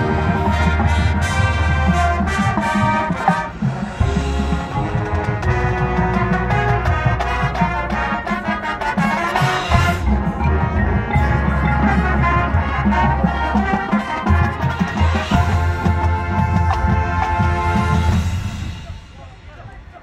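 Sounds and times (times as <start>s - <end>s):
mallet percussion: 0.0s - 18.7s
drums: 0.0s - 20.0s
marching band playing: 0.0s - 20.0s.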